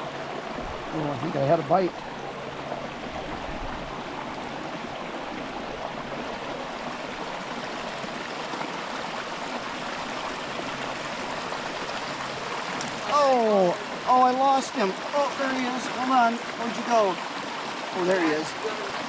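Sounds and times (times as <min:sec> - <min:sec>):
creek running over rocks: 0:00.0 - 0:19.0.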